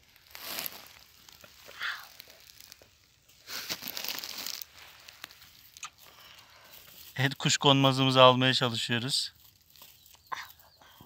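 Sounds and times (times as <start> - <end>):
dry stems rustling and crackling: 0.0 - 11.0.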